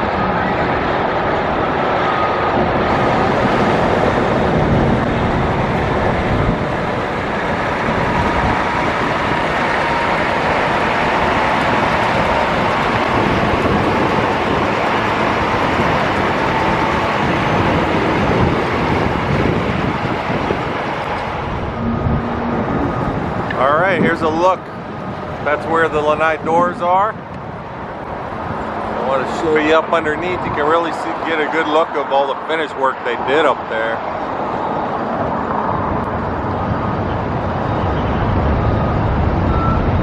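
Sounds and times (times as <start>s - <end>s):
road traffic noise: 0.0s - 40.0s.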